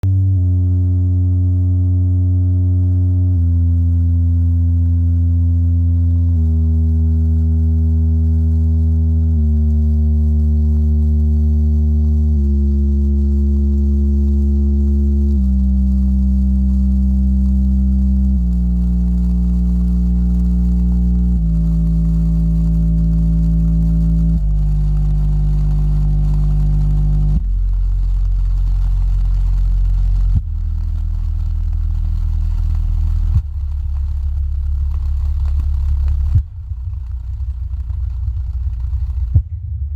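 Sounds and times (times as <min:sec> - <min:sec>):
subwoofer low test tone: 0:00.0 - 0:39.9.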